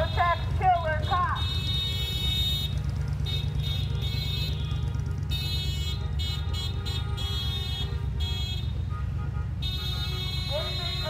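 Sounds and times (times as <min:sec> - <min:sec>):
car horns honking: 0:00.0 - 0:11.0.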